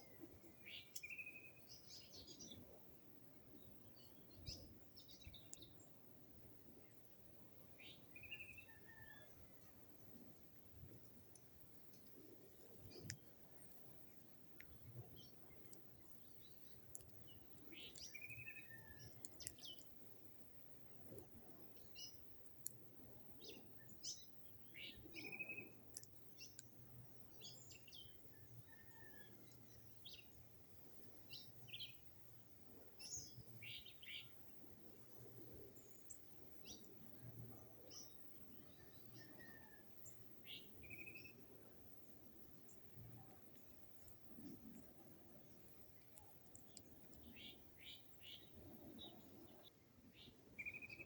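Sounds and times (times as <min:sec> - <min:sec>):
birds chirping faintly: 0:00.0 - 0:51.0.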